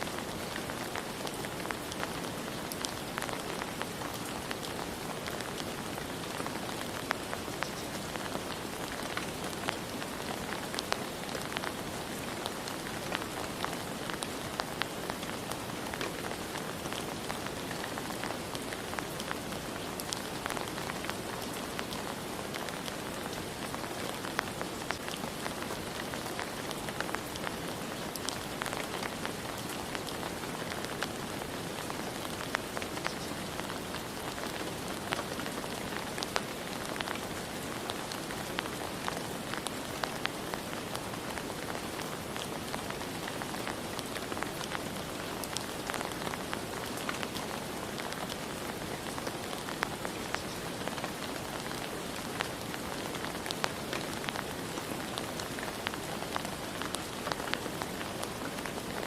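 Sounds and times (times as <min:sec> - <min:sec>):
rain drops pattering on hard surface: 0:00.0 - 0:59.0.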